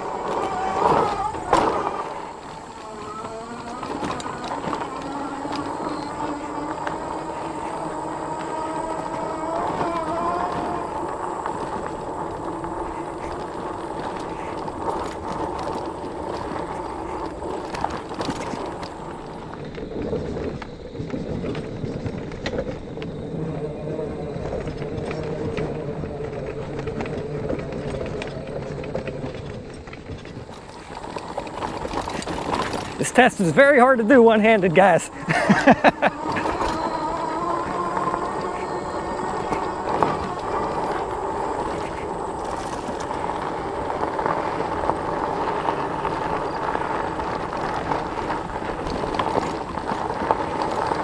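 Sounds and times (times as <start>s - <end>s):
bike knocking over bumps: 0.0s - 23.4s, 24.4s - 51.0s
electric bike motor whine: 0.0s - 51.0s
tires rumbling on dirt trail: 0.0s - 51.0s.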